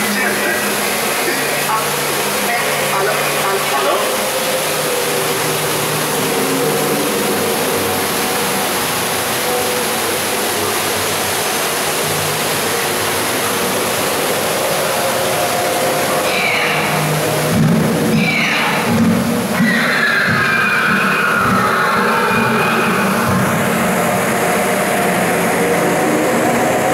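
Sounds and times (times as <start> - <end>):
falling water rushing: 0.0 - 26.9.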